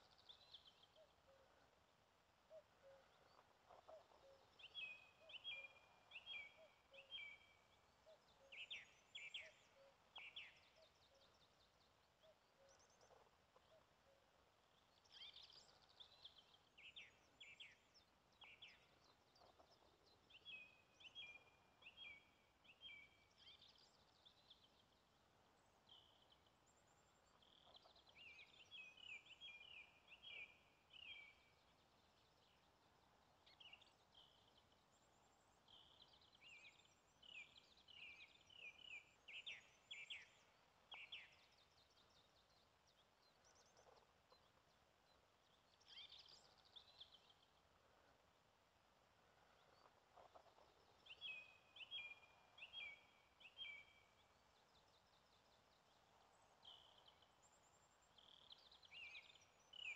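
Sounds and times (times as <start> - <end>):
songbirds chirping faintly: 0.0 - 59.9.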